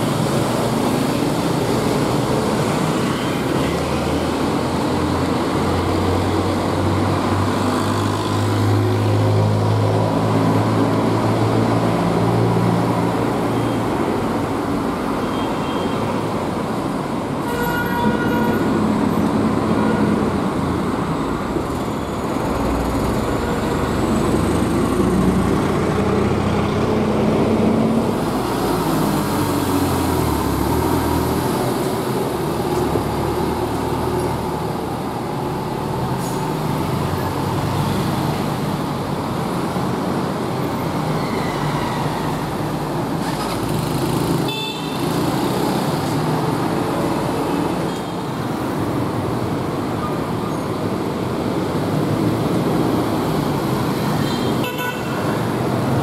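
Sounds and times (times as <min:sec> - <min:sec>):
buses passing: 0:00.0 - 0:56.0.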